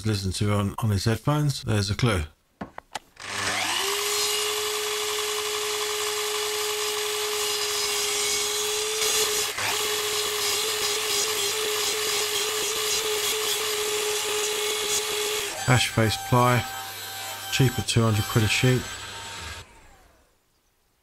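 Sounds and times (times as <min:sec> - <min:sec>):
saw blade cutting wood: 0:03.2 - 0:20.1
mitre saw whining: 0:03.2 - 0:20.4.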